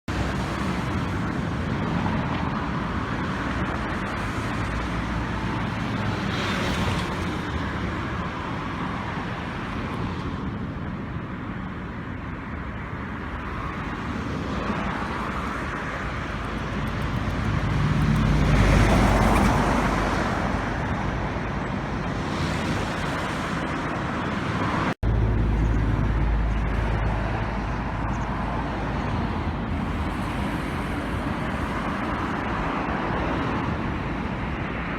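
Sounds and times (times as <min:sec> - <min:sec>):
rough water: 0:00.1 - 0:10.7, 0:13.1 - 0:34.9
roaring wind: 0:00.1 - 0:34.9.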